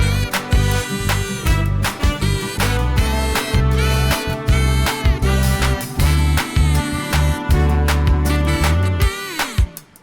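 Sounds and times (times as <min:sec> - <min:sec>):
upbeat music with pulsing bass: 0:00.0 - 0:10.0.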